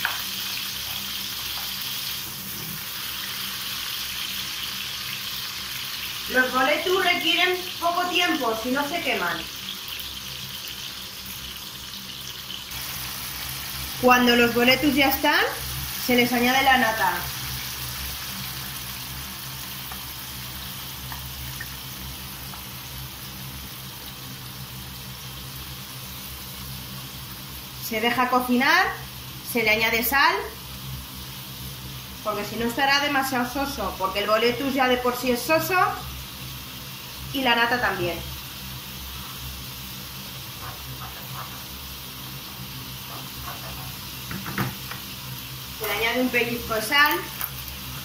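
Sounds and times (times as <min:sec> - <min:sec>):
mushrooms sizzling in oil: 0:00.0 - 0:48.0
sauce simmering in frying pan: 0:00.0 - 0:48.0.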